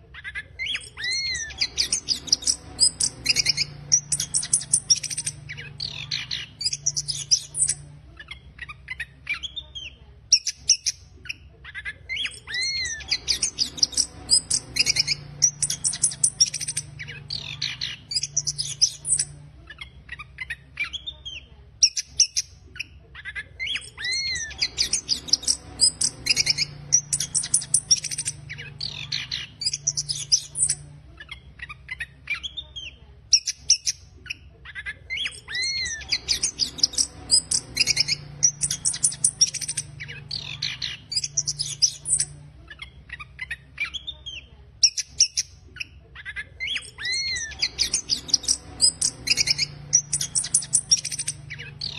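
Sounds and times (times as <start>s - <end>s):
thrush chattering song: 0.0s - 11.0s, 12.0s - 22.4s, 23.5s - 34.0s, 35.0s - 44.0s, 46.4s - 51.9s
faint low hum: 0.0s - 51.9s.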